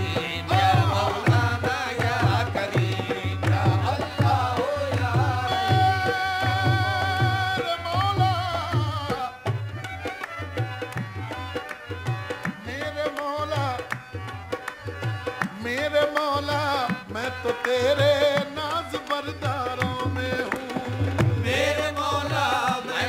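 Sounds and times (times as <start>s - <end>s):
harmonium melody: 0.0s - 23.0s
tabla drumming: 0.0s - 23.0s.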